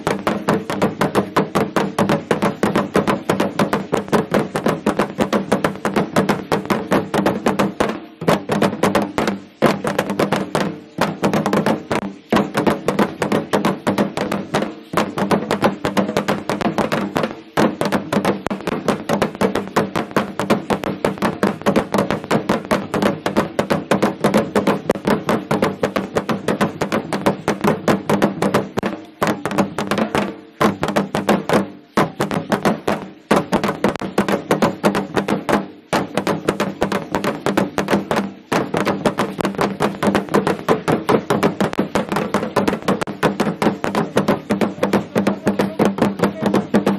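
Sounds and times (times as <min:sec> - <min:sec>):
fast drum beat: 0:00.0 - 0:46.9.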